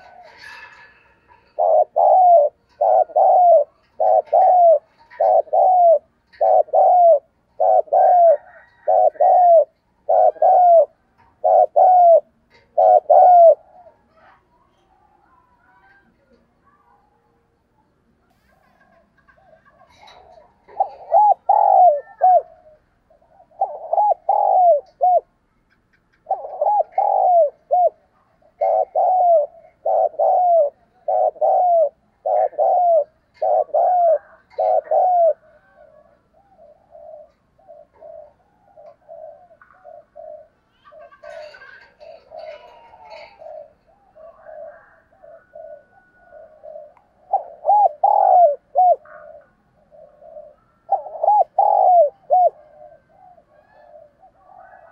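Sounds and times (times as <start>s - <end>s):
dove cooing: 0.0s - 17.3s, 18.4s - 54.9s.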